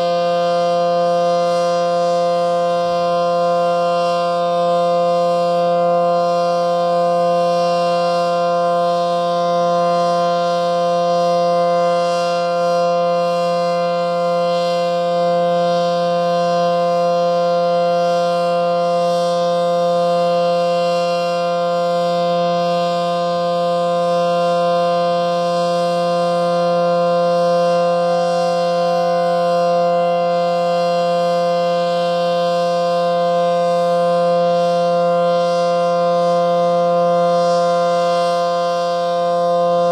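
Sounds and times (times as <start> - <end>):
tornado siren steady chord: 0.0 - 39.9.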